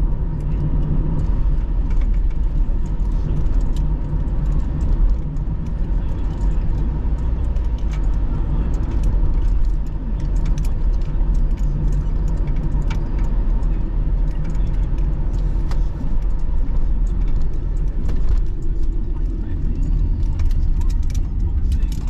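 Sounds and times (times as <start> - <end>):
car engine and road noise: 0.0 - 22.0
light clicks and rattles: 0.2 - 22.0.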